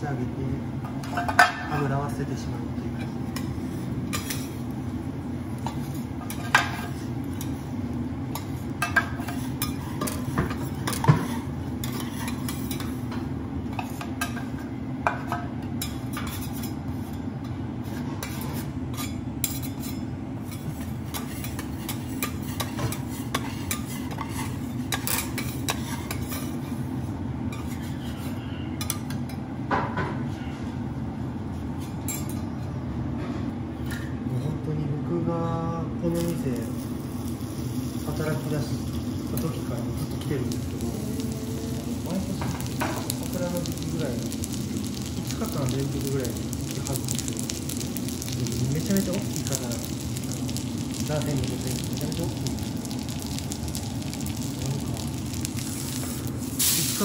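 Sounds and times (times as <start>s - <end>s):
steady low hum: 0.0s - 56.8s.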